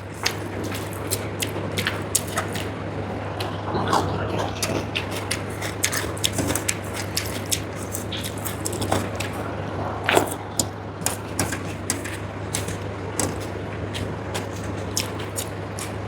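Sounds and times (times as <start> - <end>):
chewing and mouth clicks: 0.0 - 9.5, 10.1 - 16.0
steady low hum: 0.0 - 16.0.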